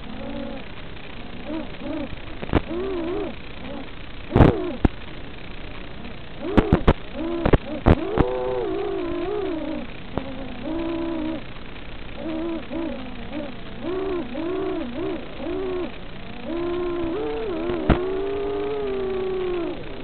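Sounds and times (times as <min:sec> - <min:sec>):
drone motors whining: 0:00.0 - 0:04.9, 0:06.0 - 0:20.0
steady hiss: 0:00.0 - 0:20.0.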